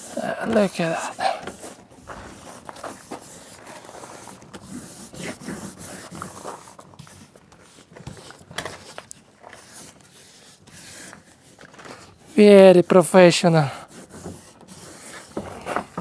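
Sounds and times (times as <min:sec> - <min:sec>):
foil mat scraping and crinkling: 0:00.0 - 0:12.8, 0:13.9 - 0:16.0.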